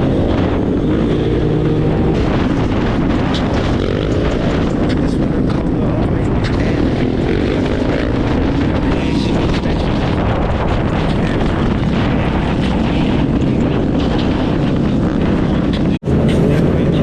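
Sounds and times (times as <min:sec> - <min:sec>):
dirt bike engines running: 0:00.0 - 0:17.0
wind buffeting microphone: 0:00.0 - 0:17.0.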